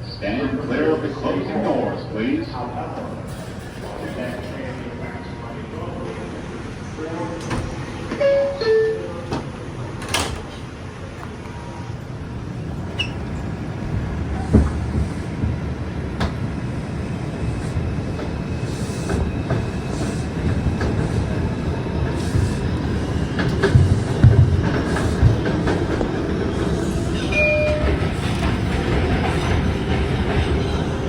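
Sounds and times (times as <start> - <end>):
subway train rumble: 0.0 - 31.0.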